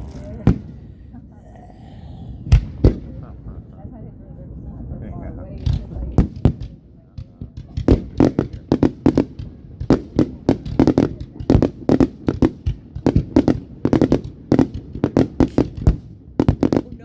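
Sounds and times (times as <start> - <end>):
fireworks exploding with echoes: 0.0 - 1.3, 2.2 - 4.0, 5.5 - 17.0.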